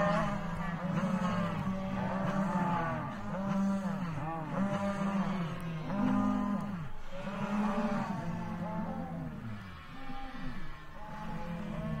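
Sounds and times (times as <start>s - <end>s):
cattle mooing: 0.0s - 12.0s.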